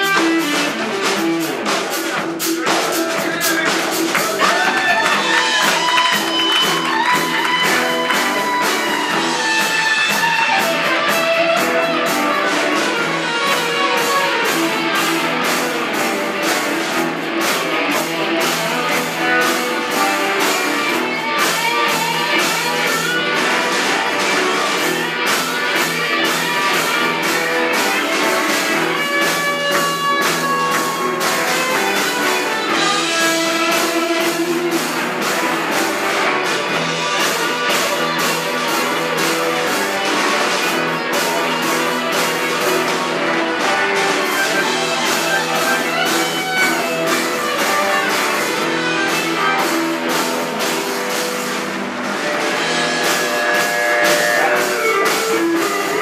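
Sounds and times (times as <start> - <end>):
bass: 0.0 - 56.0
electric guitar lead: 0.0 - 56.0
steady drum beat: 0.0 - 56.0.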